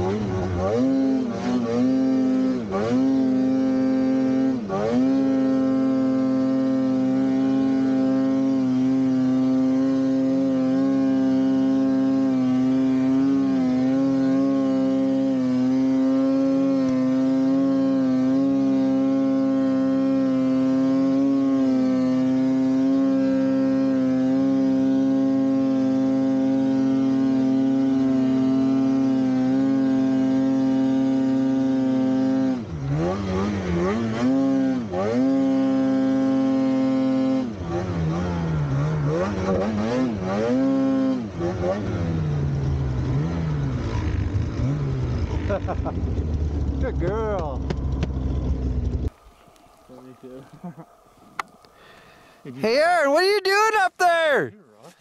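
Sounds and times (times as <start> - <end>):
snowmobile engine at high revs: 0.0 - 55.0.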